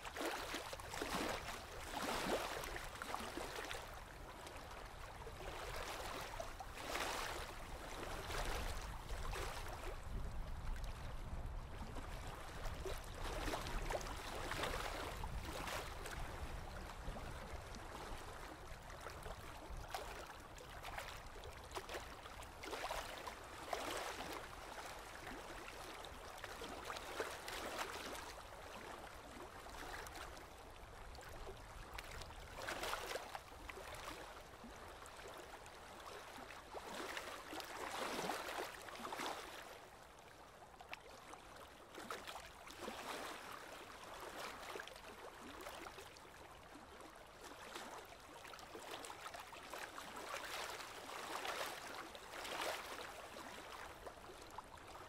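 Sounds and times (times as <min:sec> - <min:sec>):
small waves lapping and splashing: 0:00.0 - 0:55.0.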